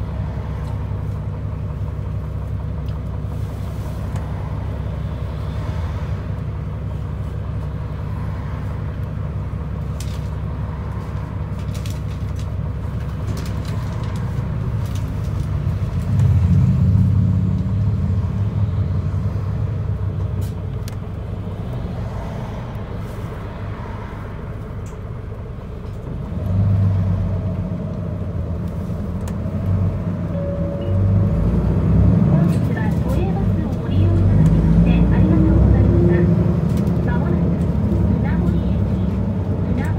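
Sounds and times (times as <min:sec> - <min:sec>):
bus engine idling: 0:00.0 - 0:39.9.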